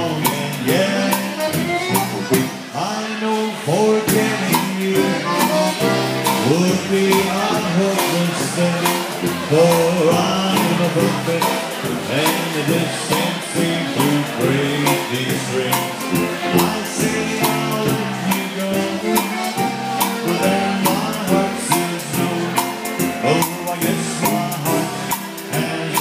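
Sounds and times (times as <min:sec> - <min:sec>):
drum kit steady beat: 0:00.0 - 0:02.8, 0:04.0 - 0:26.0
keyboard: 0:00.0 - 0:26.0
polka band playing: 0:00.0 - 0:26.0.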